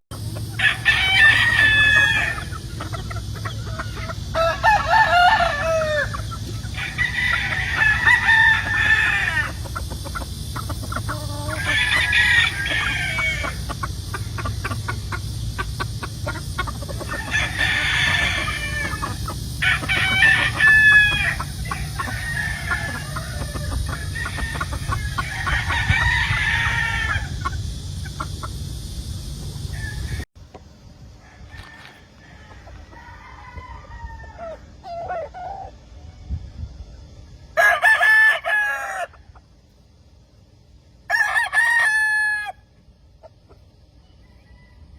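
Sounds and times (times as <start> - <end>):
roosters crowing: 0.1 - 30.3, 31.1 - 36.4, 37.0 - 39.6, 40.8 - 44.9
chickens clucking: 0.1 - 44.9.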